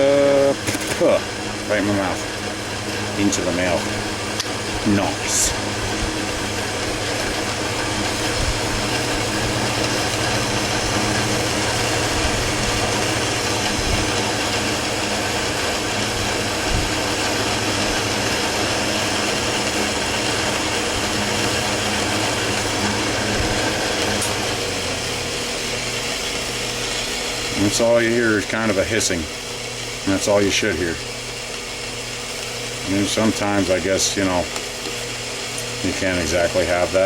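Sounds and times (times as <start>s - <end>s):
lathe tool cutting hiss: 0.0s - 37.0s
motor hum: 0.0s - 37.0s.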